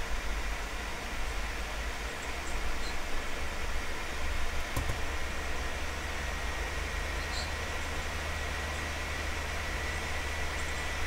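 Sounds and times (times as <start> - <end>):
steady white noise hiss: 0.0 - 11.0.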